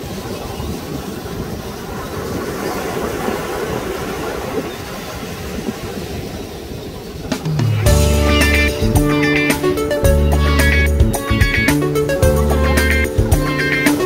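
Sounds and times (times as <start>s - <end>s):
surf: 0.0s - 14.0s
wind: 0.0s - 14.0s.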